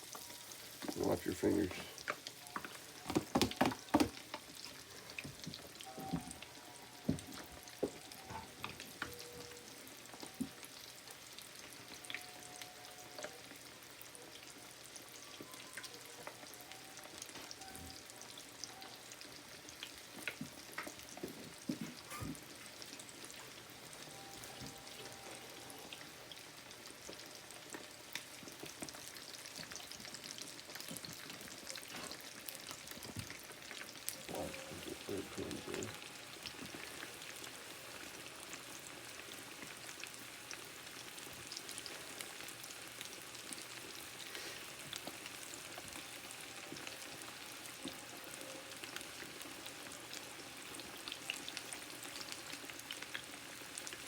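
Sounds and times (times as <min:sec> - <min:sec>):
chicken frying in hot oil: 0:00.0 - 0:54.0.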